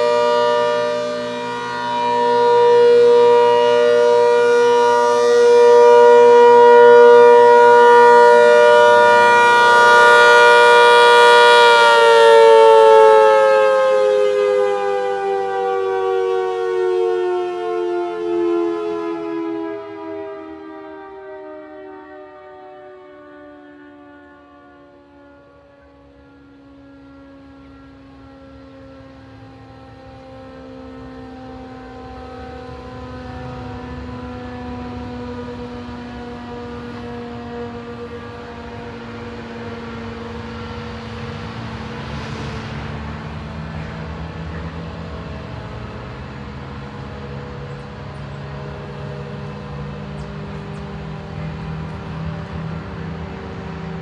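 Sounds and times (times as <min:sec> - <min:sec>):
warning siren winding down: 0:00.0 - 0:54.0.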